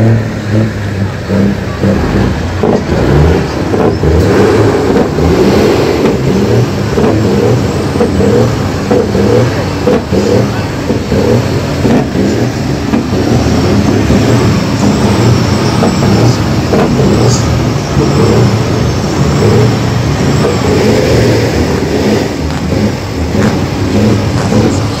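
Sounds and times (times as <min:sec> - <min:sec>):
diesel truck engines revving: 0:00.0 - 0:25.0.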